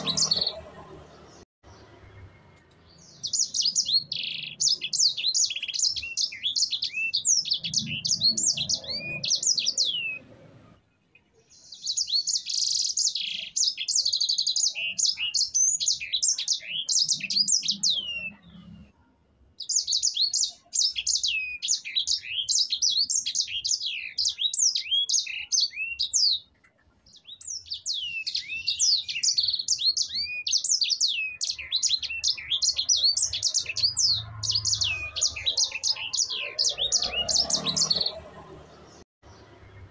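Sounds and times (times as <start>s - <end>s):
finch singing rapid high chirps: 0.0s - 0.7s, 2.9s - 10.3s, 11.5s - 18.6s, 19.6s - 26.5s, 27.1s - 39.0s.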